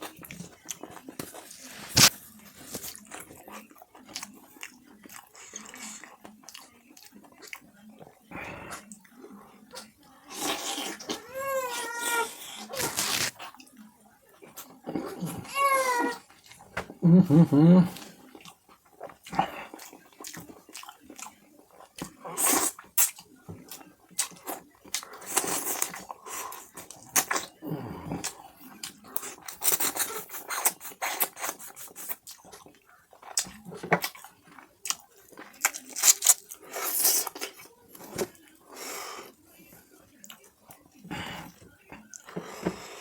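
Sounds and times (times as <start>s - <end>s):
person chewing food: 0.0s - 9.0s, 9.7s - 39.4s.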